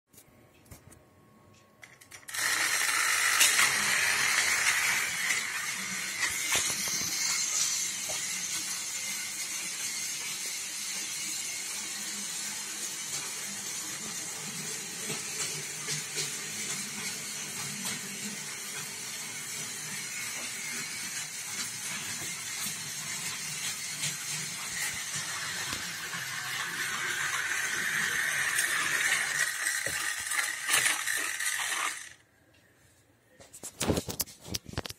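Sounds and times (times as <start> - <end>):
toy train motor whirring: 1.8 - 32.2
toy train wheels rattling: 1.8 - 32.2.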